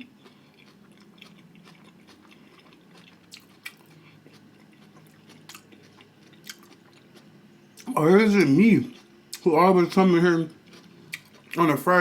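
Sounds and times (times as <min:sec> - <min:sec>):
chewing food: 0:00.0 - 0:08.0, 0:08.8 - 0:12.0.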